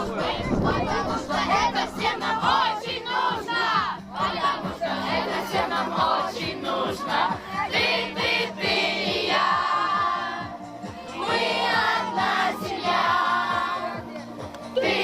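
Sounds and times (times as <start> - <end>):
group singing in chorus: 0.0 - 14.1, 14.8 - 15.0.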